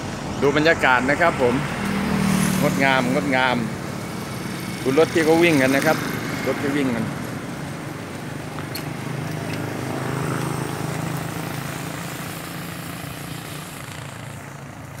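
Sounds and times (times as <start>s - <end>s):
motor scooter engine: 1.4s - 15.0s.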